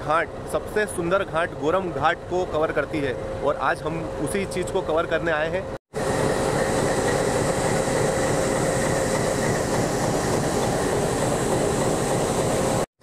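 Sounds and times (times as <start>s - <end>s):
diesel locomotive idling: 0.0s - 12.9s.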